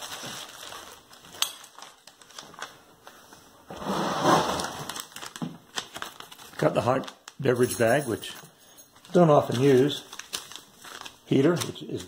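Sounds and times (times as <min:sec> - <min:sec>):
plastic packaging crinkling: 0:00.0 - 0:03.6, 0:04.6 - 0:12.0
plastic packaging rustle: 0:00.0 - 0:03.8, 0:04.4 - 0:12.0.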